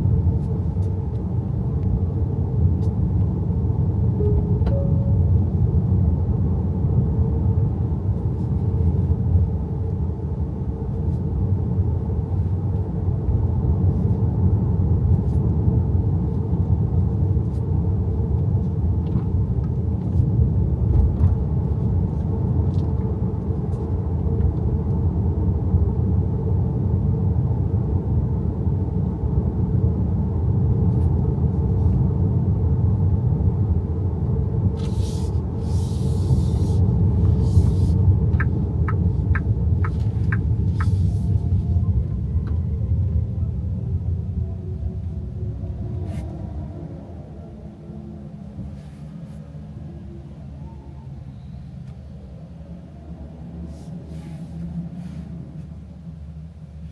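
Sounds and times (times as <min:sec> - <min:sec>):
road and tyre rumble: 0:00.0 - 0:56.9.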